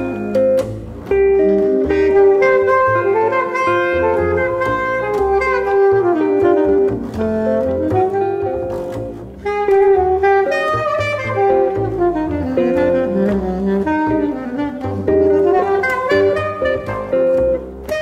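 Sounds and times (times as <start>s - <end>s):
double bass notes: 0.0s - 18.0s
jazz trio playing: 0.0s - 18.0s
saxophone melody: 0.0s - 18.0s.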